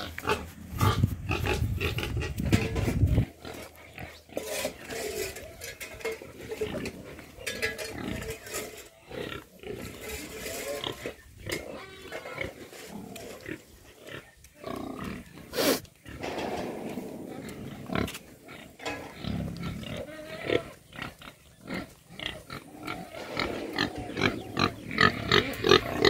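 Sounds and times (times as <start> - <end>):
pigs grunting: 0.0 - 26.0.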